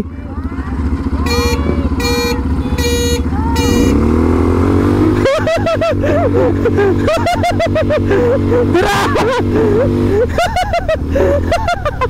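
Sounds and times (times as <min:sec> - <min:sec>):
atv engine humming: 0:00.0 - 0:12.0.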